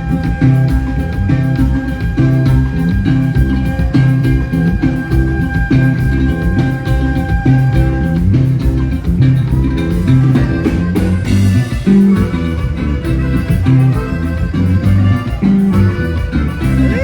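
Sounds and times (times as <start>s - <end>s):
instrumental dance music: 0.0s - 17.0s.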